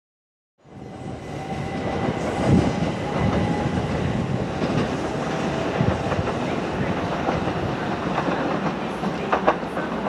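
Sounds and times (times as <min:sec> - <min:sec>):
train wheels rumbling and knocking: 0:00.8 - 0:10.0.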